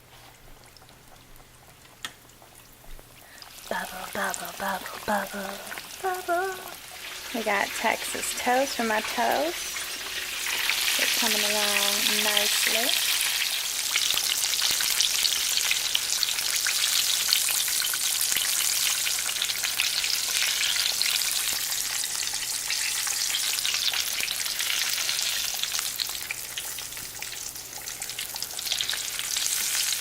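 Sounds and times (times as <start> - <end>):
tomato slices sizzling in oil: 0.1 - 30.0.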